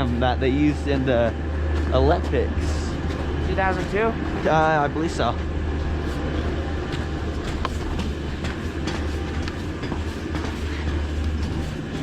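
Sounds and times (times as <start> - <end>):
ski lift machinery humming: 0.0 - 12.0.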